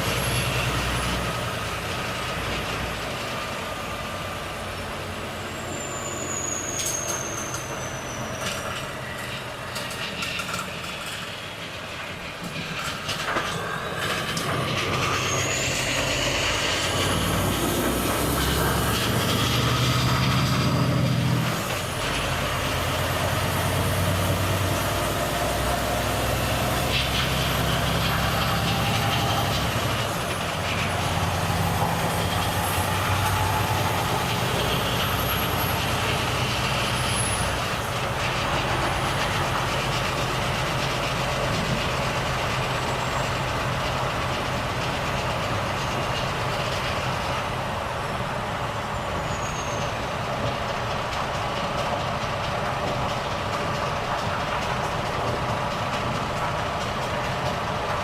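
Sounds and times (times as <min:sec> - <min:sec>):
truck diesel engine accelerating: 0:00.0 - 0:09.7, 0:12.8 - 0:58.0.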